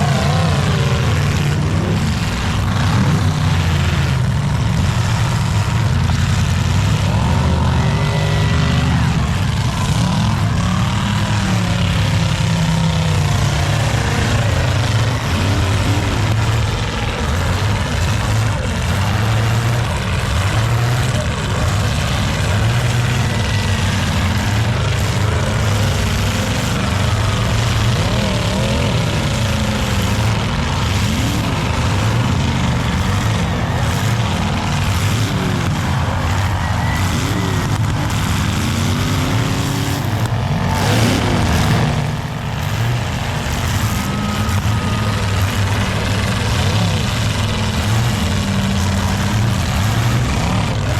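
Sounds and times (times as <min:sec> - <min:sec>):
car engines revving: 0:00.0 - 0:50.9
cars crashing: 0:00.0 - 0:50.9.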